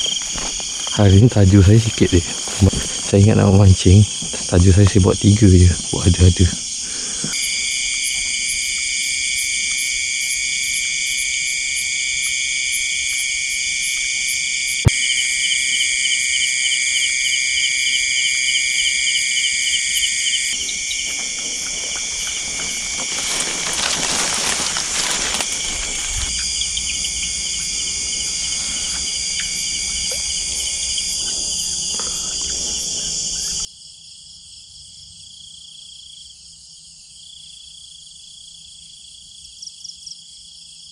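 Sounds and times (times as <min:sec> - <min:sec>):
crickets and insects trilling: 0:00.0 - 0:40.2.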